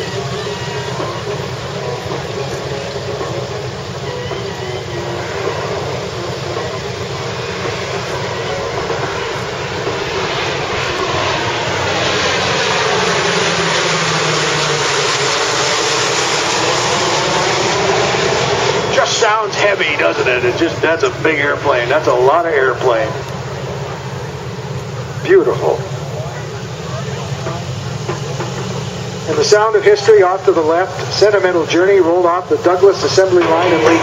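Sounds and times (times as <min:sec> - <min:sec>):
turboprop aircraft droning: 0:00.0 - 0:34.0.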